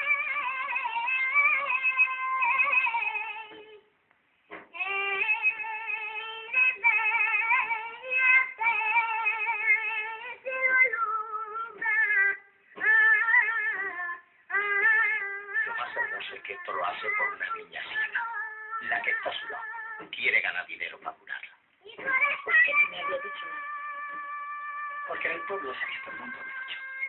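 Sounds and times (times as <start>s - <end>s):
boy singing in high voice: 0.0s - 3.9s, 4.7s - 20.2s, 21.8s - 27.0s.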